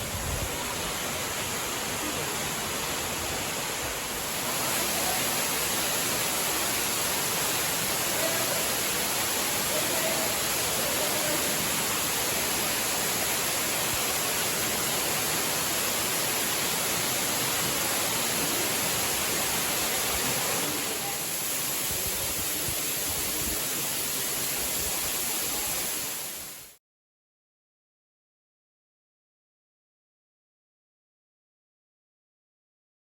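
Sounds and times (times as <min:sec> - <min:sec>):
waterfall rushing: 0:00.0 - 0:26.8.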